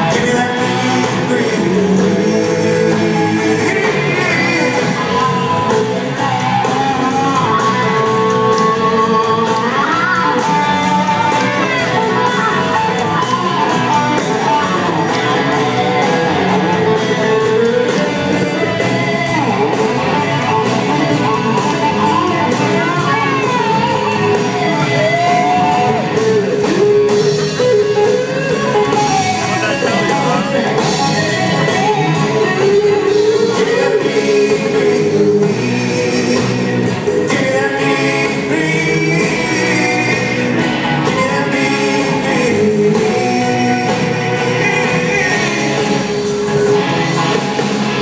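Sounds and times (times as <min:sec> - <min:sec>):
electric guitar lead: 0:00.0 - 0:48.0
rock band playing: 0:00.0 - 0:48.0.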